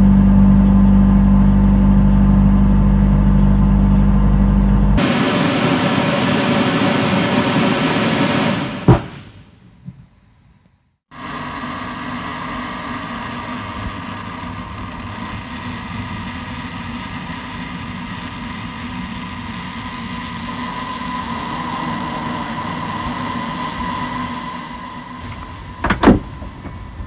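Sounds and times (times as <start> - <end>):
engine humming: 0.0 - 9.2, 11.1 - 27.0.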